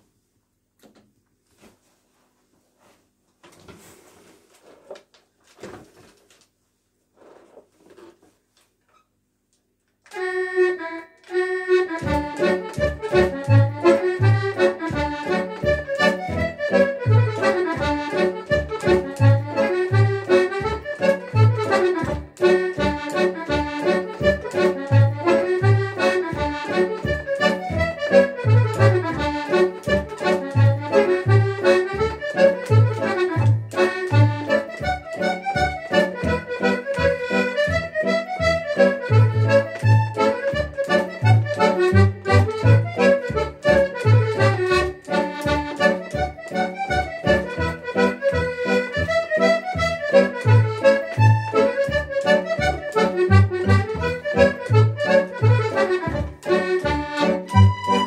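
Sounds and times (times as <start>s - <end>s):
accordion melody: 10.0s - 58.0s.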